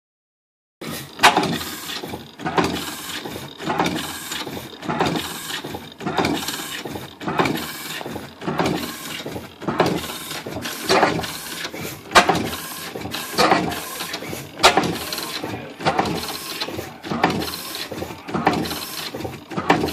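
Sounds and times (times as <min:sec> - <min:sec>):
stationary engine running slowly: 0:00.8 - 0:19.9.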